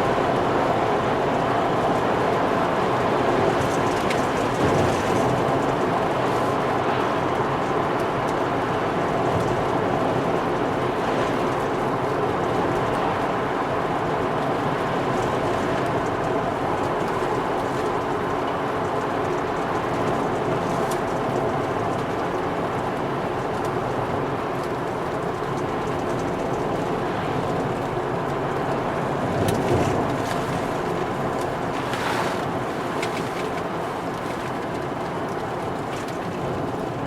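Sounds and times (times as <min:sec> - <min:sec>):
tyre and road noise: 0:00.0 - 0:37.0.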